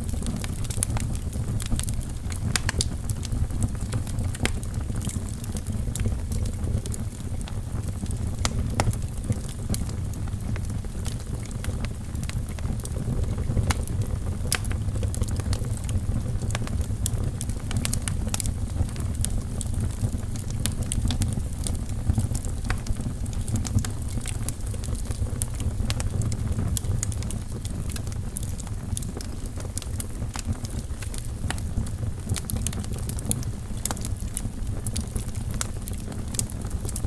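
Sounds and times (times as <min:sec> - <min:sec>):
flames rumbling: 0:00.0 - 0:37.0
logs crackling and popping: 0:00.0 - 0:37.0.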